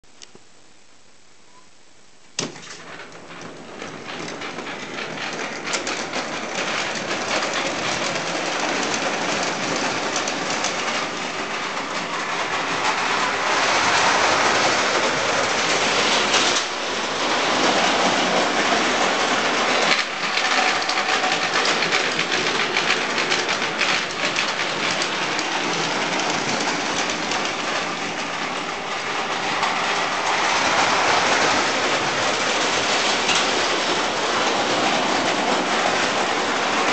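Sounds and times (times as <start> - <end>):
toy train wheels rattling on rails: 2.5 - 36.9.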